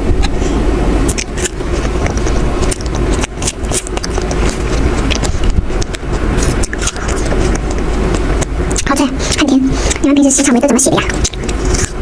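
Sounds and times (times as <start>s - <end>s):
steady low rumble: 0.0s - 12.0s
person chewing a strawberry: 0.2s - 10.2s, 11.1s - 12.0s.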